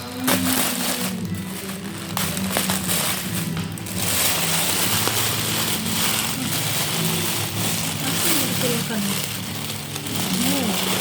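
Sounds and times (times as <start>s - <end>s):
background music: 0.0s - 11.0s
plastic packaging crinkling: 0.0s - 11.0s.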